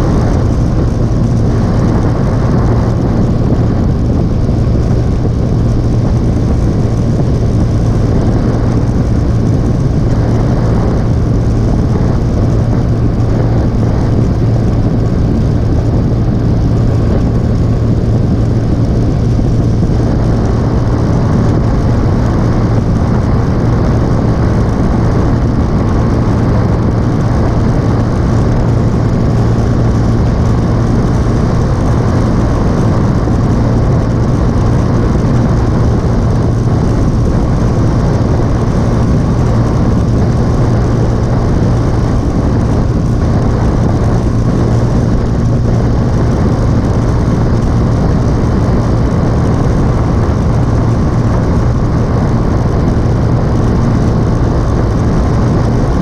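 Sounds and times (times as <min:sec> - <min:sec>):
motorcycle engine cruising: 0:00.0 - 0:56.0
wind and road noise: 0:00.0 - 0:56.0.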